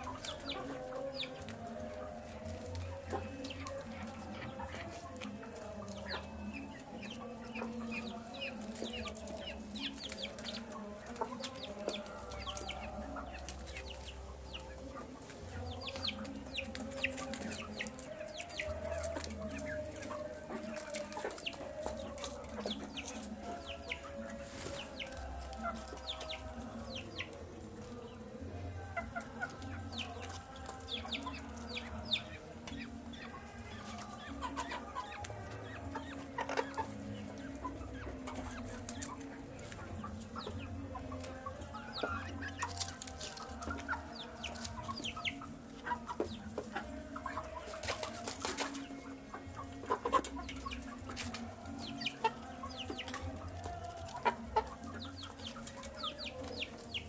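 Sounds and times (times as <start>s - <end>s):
chickens clucking: 0.0s - 57.0s
chicks peeping: 0.0s - 57.0s.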